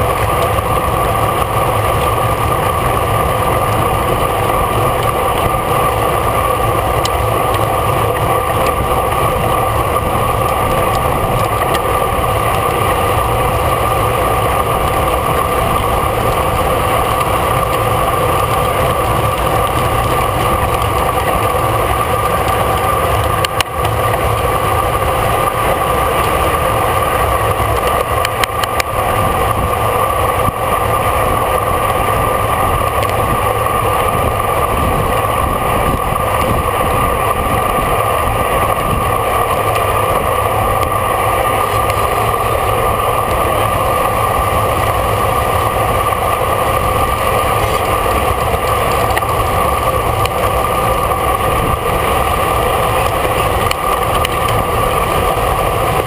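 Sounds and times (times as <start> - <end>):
wind rumbling over microphone: 0.0 - 56.0.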